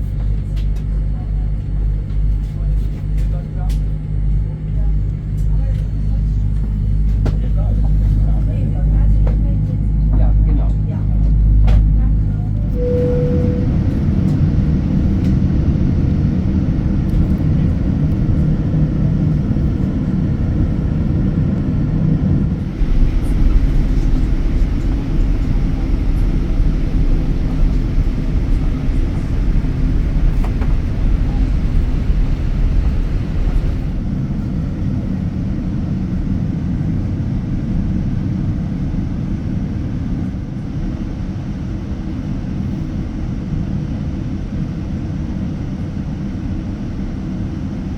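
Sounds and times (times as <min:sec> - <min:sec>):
jet engines rumbling in cabin: 0:00.0 - 0:47.9.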